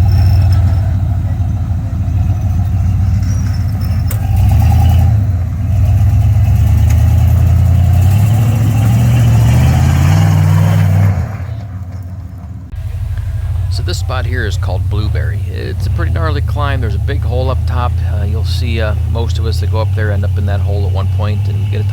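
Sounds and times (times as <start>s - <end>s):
engine revving under load: 0.0s - 21.9s.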